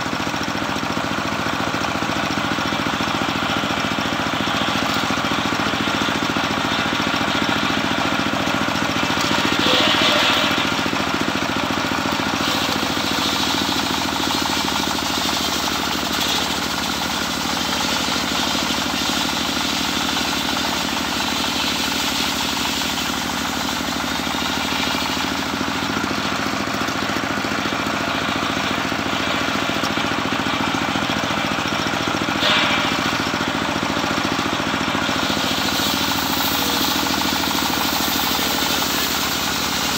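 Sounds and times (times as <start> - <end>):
sawmill engine hum: 0.0 - 39.9
saw blade cutting log: 1.3 - 39.9.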